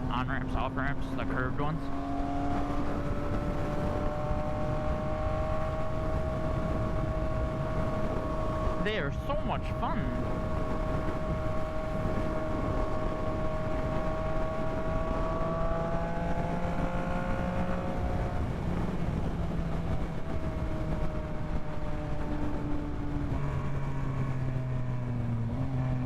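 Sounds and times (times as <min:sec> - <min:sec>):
motorcycle engine running: 0:00.0 - 0:26.0
wind noise on microphone: 0:01.8 - 0:26.0.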